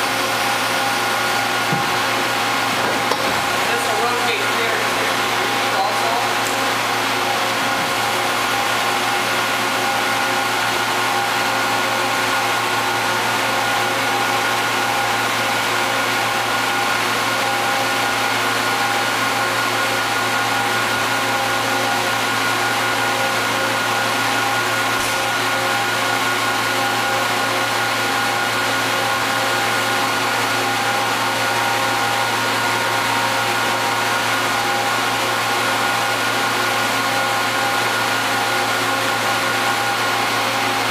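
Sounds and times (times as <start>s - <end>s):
machine hum with whine: 0.0s - 40.9s.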